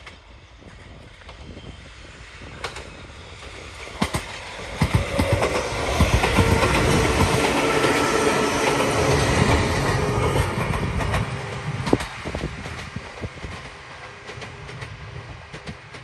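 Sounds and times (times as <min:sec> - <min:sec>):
electric train running past: 0:00.0 - 0:16.0
wheels clicking over rail joints: 0:02.6 - 0:16.0.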